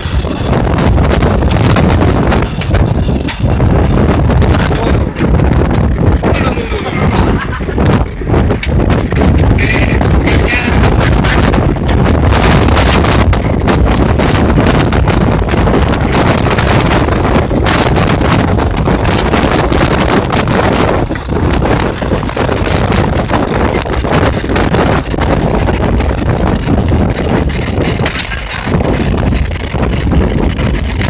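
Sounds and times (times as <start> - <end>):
knocks and rattles: 0.0 - 31.0
vehicle driving over rough ground: 0.0 - 31.0
wind buffeting microphone: 0.0 - 31.0.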